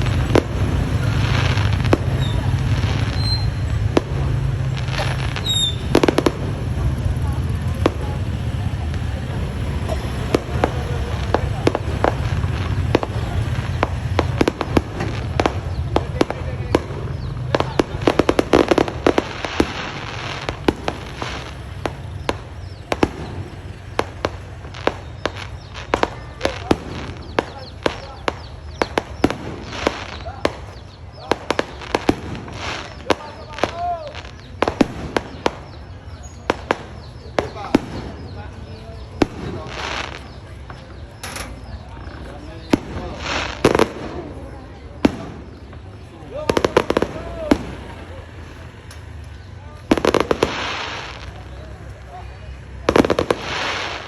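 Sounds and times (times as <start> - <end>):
fireworks bangs and cracks: 0.0 - 54.0
noisy haze: 0.0 - 54.0.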